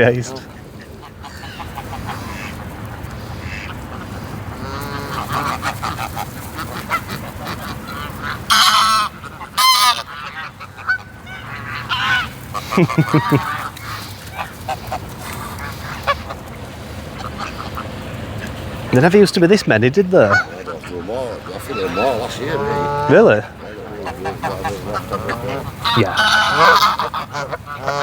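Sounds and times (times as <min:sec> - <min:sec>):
geese honking: 0:00.0 - 0:28.0
loud harsh goose honks: 0:00.0 - 0:28.0.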